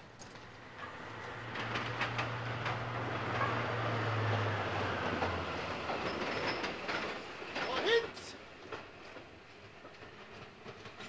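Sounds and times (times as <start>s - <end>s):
rail cars rumbling and rattling: 0.0s - 11.0s.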